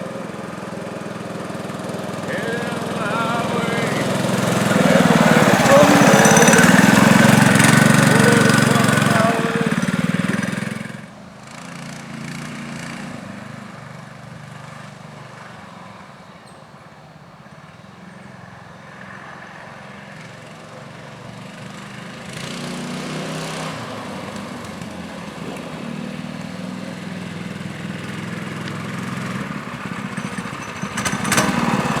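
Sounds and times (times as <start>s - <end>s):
small bike engine running: 0.0s - 16.0s, 20.3s - 32.0s.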